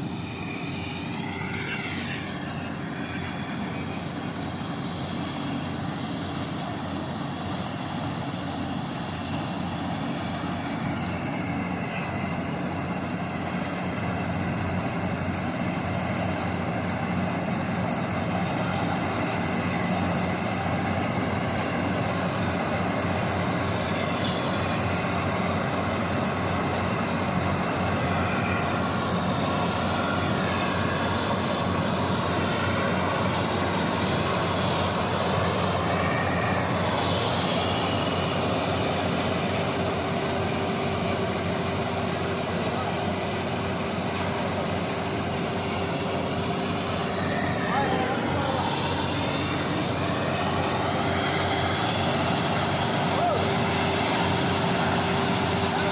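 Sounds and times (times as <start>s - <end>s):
combine harvester engine drone: 0.0s - 55.9s
machinery whines: 0.0s - 55.9s.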